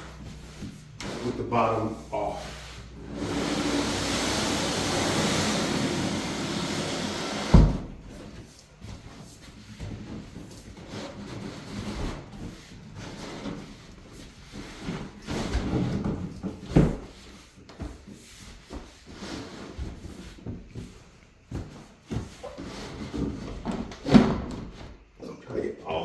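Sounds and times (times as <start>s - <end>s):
wooden furniture knocking and scraping: 3.1s - 25.2s.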